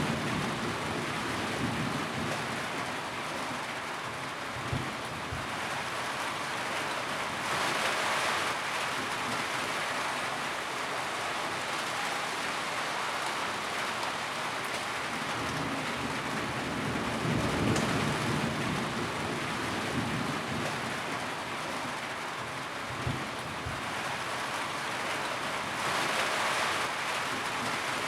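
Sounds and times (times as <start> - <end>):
rain on a tin roof: 0.0 - 28.0.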